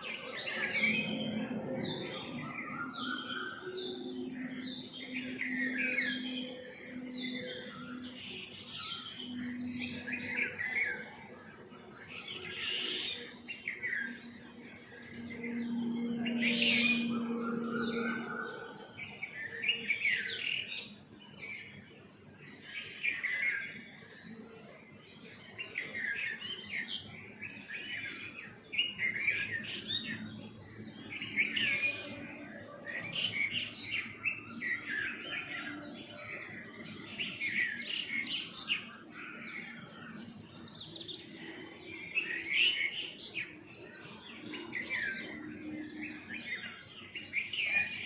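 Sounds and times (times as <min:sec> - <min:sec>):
small songbirds chirping: 0:00.0 - 0:48.0.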